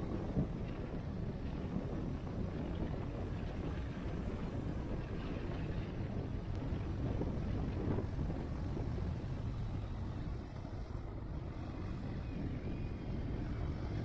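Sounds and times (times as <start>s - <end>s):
motorcycle engine rumble: 0.0s - 14.0s
tyre and wind noise: 0.0s - 14.0s.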